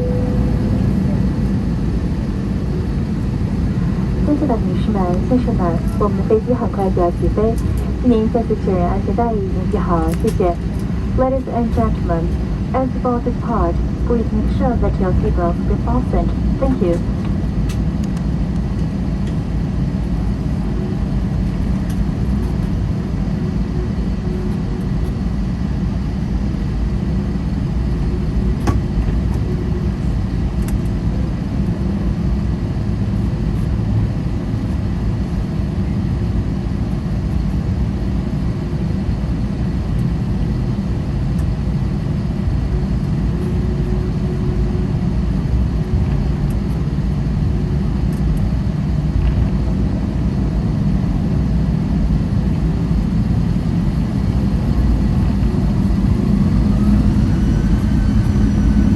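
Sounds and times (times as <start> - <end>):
aircraft cabin engine rumble: 0.0 - 58.9.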